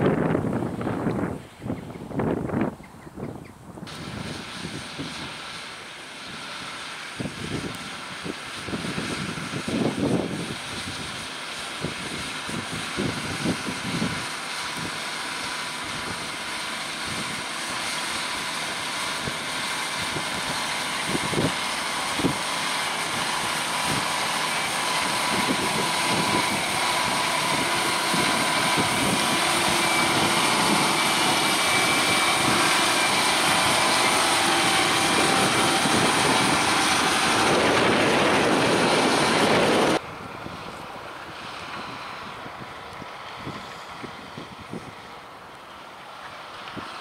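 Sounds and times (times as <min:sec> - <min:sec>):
tractor diesel engine under load: 0:00.0 - 0:02.8, 0:03.6 - 0:47.0.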